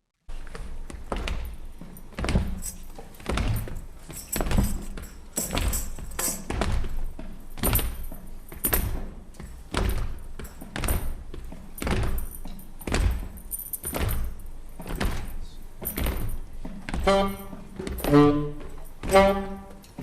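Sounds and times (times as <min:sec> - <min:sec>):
percussion slow steady beat: 0:00.6 - 0:20.0.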